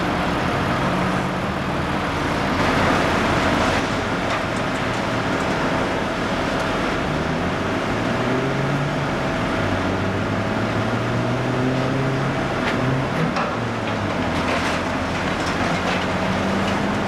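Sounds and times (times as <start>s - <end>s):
excavator diesel engine under load: 0.0s - 17.0s.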